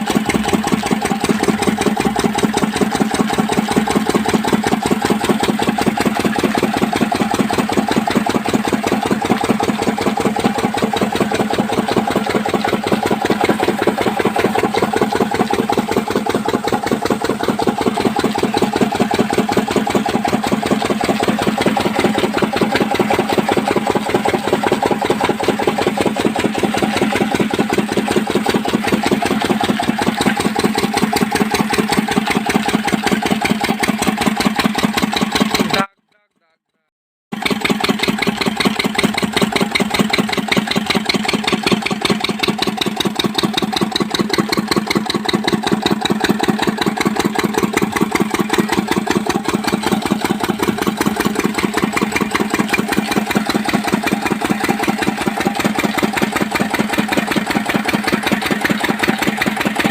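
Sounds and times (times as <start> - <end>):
diesel engine running steadily: 0.0 - 36.6, 37.3 - 59.9.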